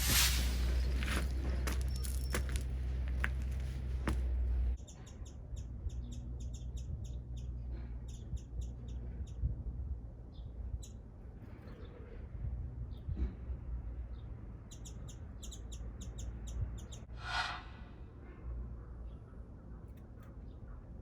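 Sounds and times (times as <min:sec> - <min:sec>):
small birds chirping: 0:00.0 - 0:17.8.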